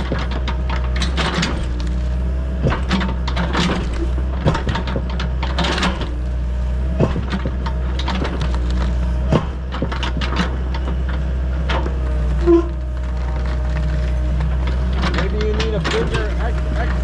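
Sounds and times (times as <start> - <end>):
bucket scraping rocky ground: 0.0 - 17.0
diesel engine running under load: 0.0 - 17.0.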